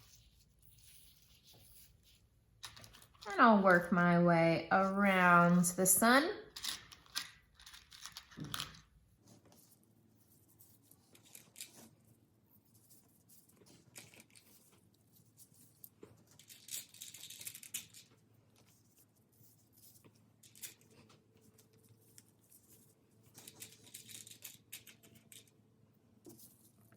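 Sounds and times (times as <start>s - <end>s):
rustling craft materials: 0.0s - 3.6s, 5.1s - 26.9s.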